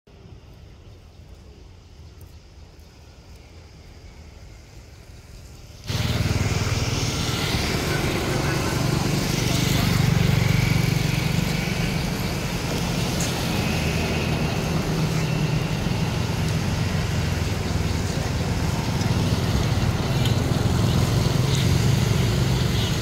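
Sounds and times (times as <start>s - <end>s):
low outdoor rumble: 0.1s - 22.9s.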